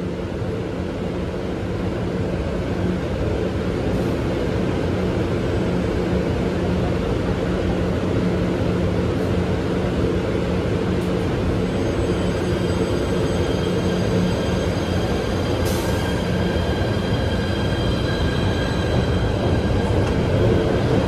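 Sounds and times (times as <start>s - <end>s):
subway train humming: 0.0s - 21.0s.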